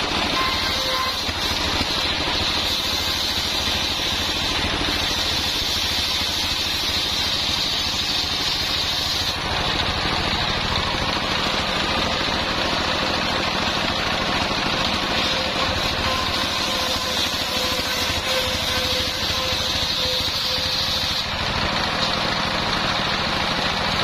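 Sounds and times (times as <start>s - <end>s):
circular saw blade sawing wood: 0.0s - 24.0s
engine running: 0.0s - 24.0s.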